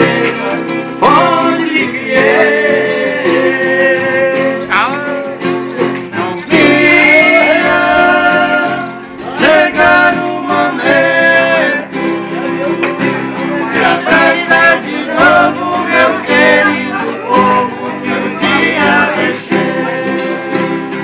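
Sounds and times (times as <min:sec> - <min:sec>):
acoustic guitars strummed: 0:00.0 - 0:21.0
men singing in harmony: 0:00.0 - 0:21.0.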